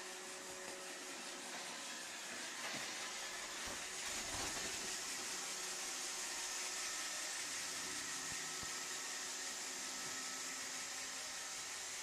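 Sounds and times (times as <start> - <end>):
faint motor whines: 0.0 - 12.0
robot vacuum whirring: 0.0 - 12.0.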